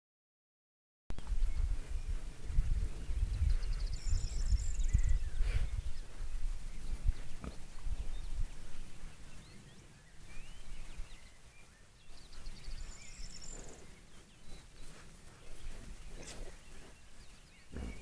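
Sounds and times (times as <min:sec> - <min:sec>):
low rumbling microphone noise: 0:01.1 - 0:18.0
bird chirps: 0:02.8 - 0:18.0.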